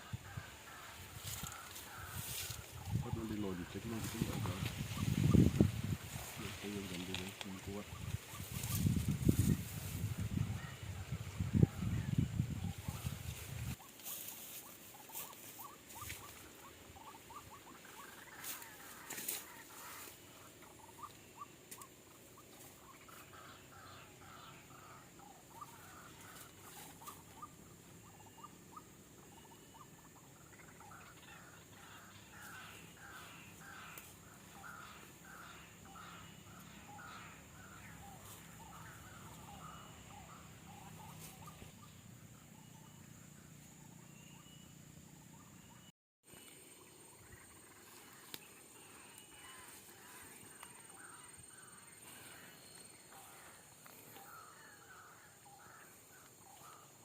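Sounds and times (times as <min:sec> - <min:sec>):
bird croaking calls: 0:00.0 - 0:57.0.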